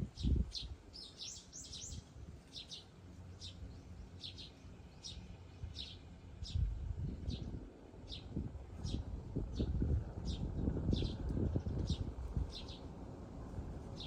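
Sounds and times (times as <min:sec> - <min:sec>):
sparrow chirping: 0:00.1 - 0:13.0.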